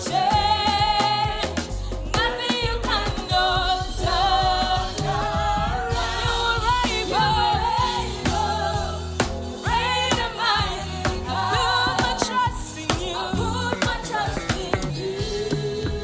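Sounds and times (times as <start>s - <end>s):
band playing bass keys drums: 0.0s - 16.0s
gospel singing: 0.0s - 16.0s.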